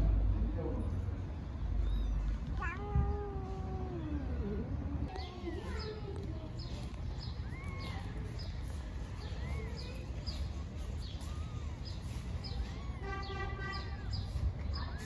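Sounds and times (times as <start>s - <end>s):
kittens mewing: 1.8s - 15.0s.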